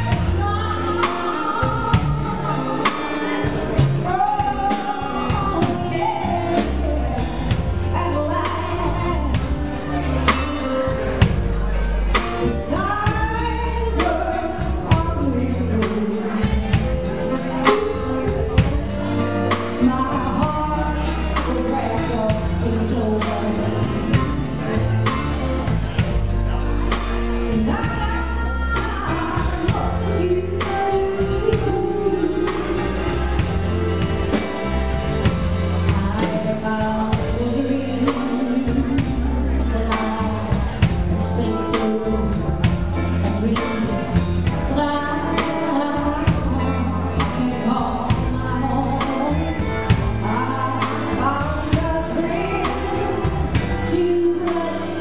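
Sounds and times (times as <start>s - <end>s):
woman singing: 0.0s - 11.4s, 12.1s - 26.1s, 27.0s - 55.0s
live band playing: 0.0s - 55.0s.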